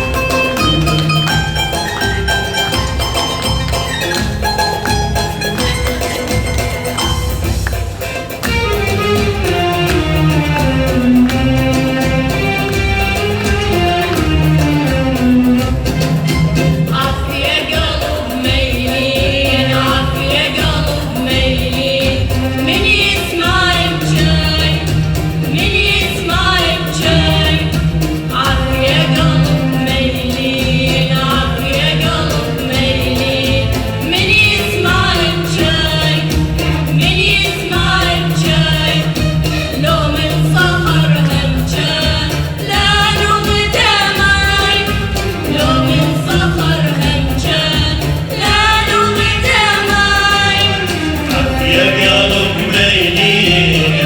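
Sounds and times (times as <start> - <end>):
low instrumental accompaniment: 0.0 - 54.0
person singing with vibrato: 8.2 - 54.0.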